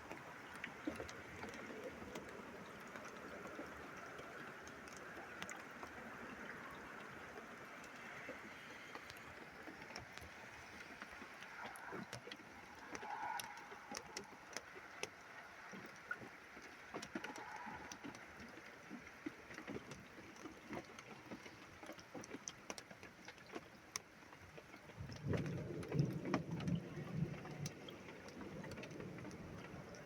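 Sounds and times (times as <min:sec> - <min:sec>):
rain hiss: 0:00.0 - 0:19.6, 0:24.9 - 0:30.0
raindrops ticking: 0:00.0 - 0:30.0.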